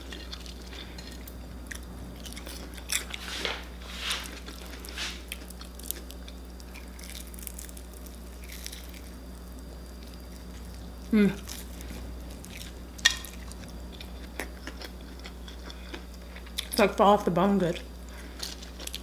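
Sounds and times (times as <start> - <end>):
chewing crispy food: 0.0 - 16.9, 17.7 - 19.0.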